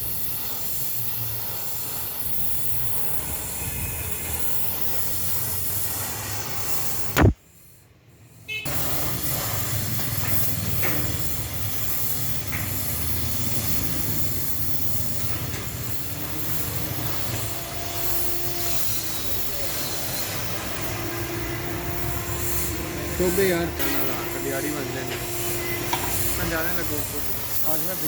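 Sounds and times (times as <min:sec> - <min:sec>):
arc welding hiss and buzz: 0:00.0 - 0:28.0.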